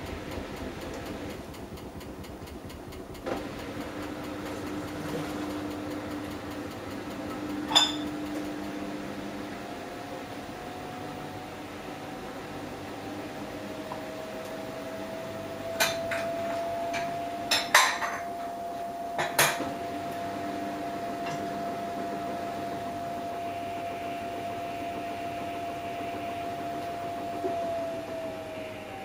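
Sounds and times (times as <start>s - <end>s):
washing machine motor whine: 0.0s - 29.0s.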